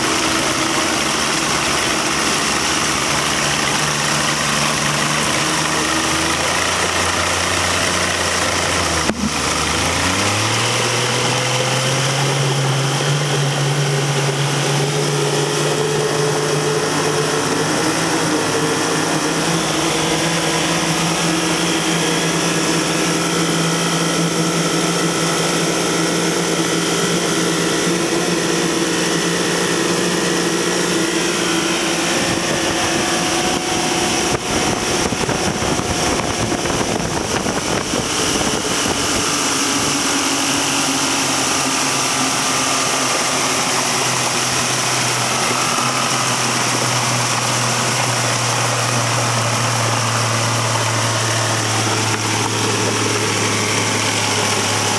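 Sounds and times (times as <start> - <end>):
outboard motor running: 0.0 - 54.9
water rushing and spraying: 0.0 - 54.9.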